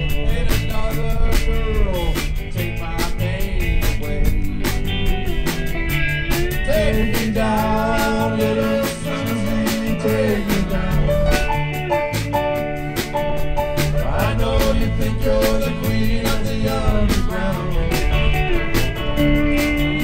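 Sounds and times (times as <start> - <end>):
bass guitar: 0.0 - 20.0
drums: 0.0 - 20.0
electric guitars: 0.0 - 20.0.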